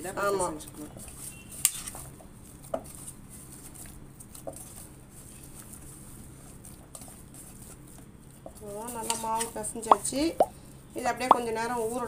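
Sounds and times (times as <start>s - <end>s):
hand kneading dough: 0.0s - 12.0s.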